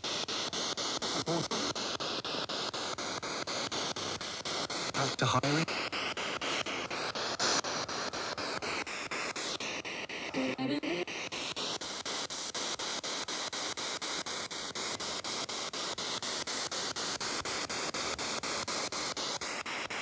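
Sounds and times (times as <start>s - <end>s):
radio static hiss chopped by sweep: 0.0s - 20.0s.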